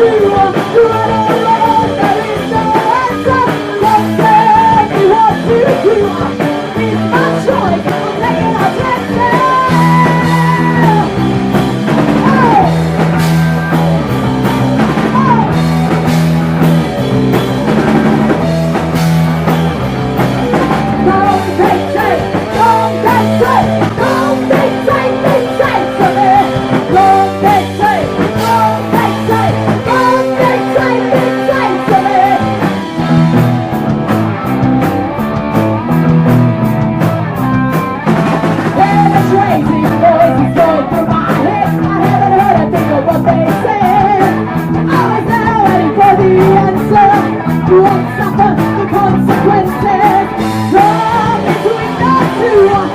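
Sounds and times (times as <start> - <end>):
live rock band playing loudly: 0.0 - 52.9.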